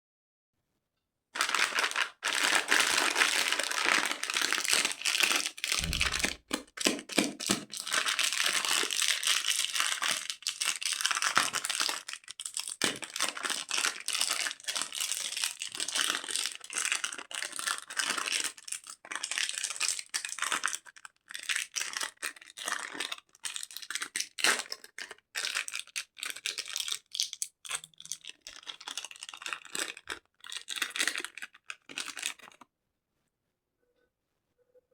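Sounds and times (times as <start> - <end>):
candy wrappers crinkling: 1.4 - 32.6.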